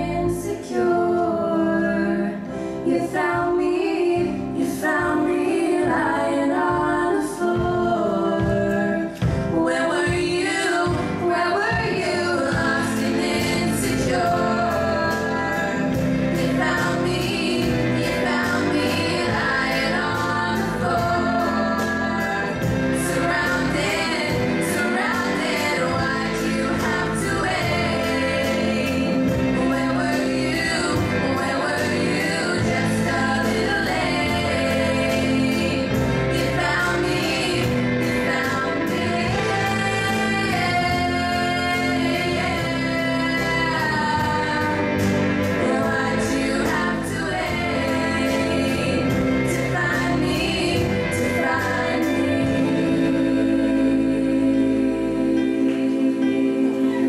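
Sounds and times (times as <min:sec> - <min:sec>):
band with keyboard: 0:00.0 - 0:57.0
women singing together: 0:00.0 - 0:57.0.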